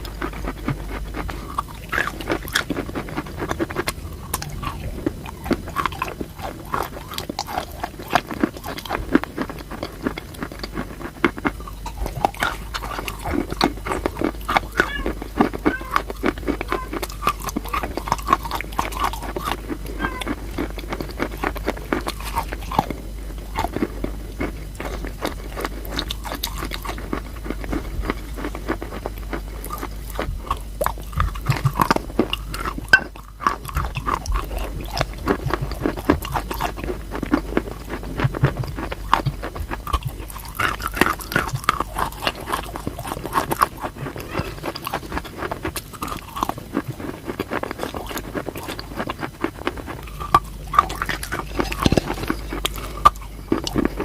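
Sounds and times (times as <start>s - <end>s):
chalk being chewed: 0.0s - 54.0s.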